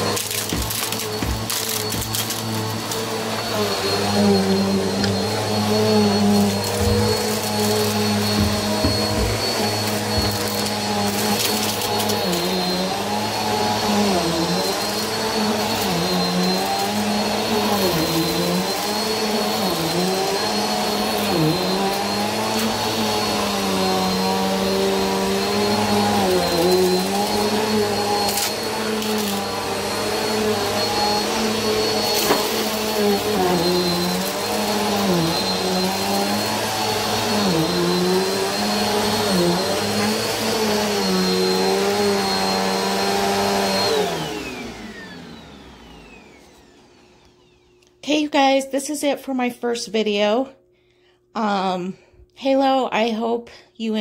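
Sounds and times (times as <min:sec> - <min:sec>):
vacuum cleaner running: 0:00.0 - 0:48.6.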